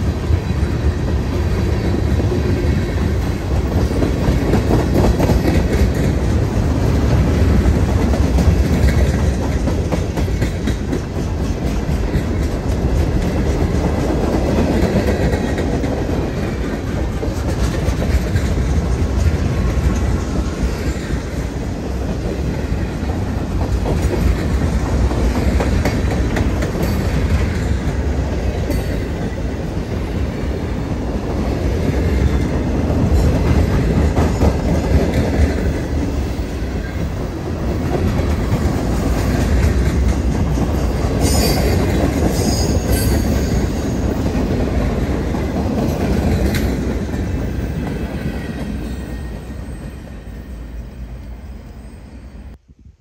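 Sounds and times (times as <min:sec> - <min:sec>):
steel wheels rumbling on rail: 0:00.0 - 0:52.7.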